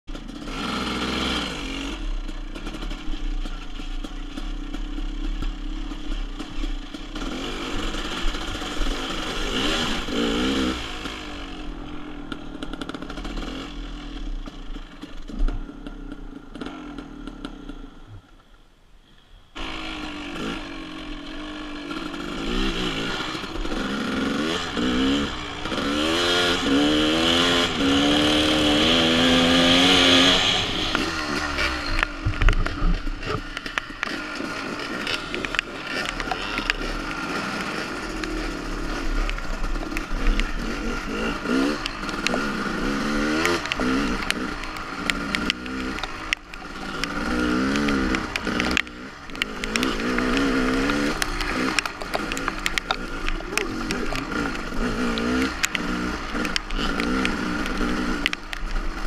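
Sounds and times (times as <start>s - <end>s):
dirt bike engine revving: 0.1s - 18.1s, 19.6s - 59.0s.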